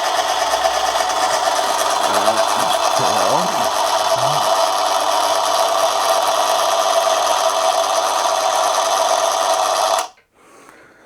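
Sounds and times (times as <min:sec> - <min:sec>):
lathe motor humming and whining: 0:00.0 - 0:10.0.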